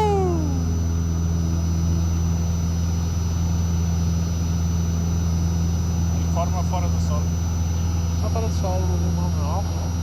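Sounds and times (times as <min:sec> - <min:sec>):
light aircraft engine and propeller: 0:00.0 - 0:10.0.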